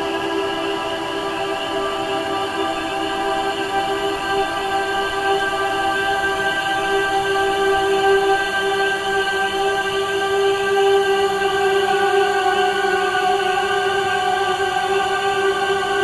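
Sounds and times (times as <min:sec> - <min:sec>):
choir-like ambient drone: 0:00.0 - 0:16.0.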